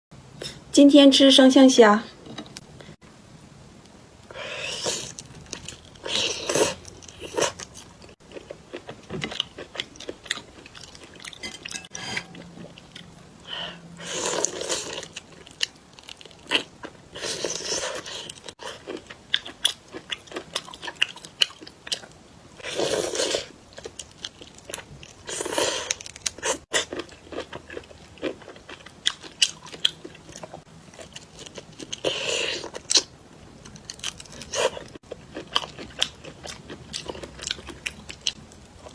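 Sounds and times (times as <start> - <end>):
quiet chewing and crackles: 3.8 - 38.9.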